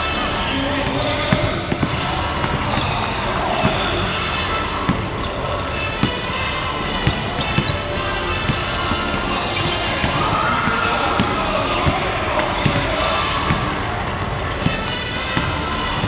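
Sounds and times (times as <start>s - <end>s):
basketballs bouncing on hardwood: 0.3s - 16.0s.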